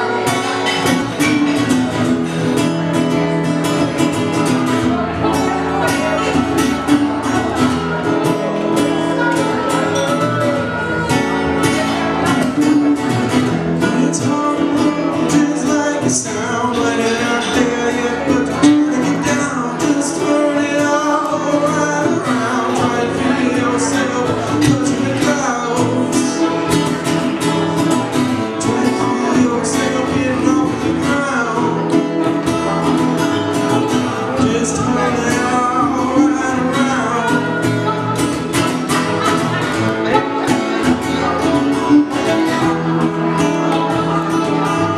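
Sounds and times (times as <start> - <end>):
strummed acoustic guitar: 0.0 - 44.9.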